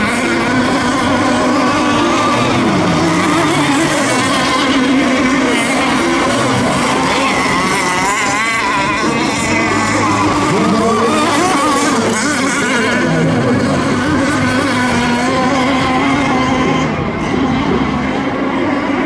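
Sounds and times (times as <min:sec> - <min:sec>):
small boat motors racing: 0:00.0 - 0:19.0.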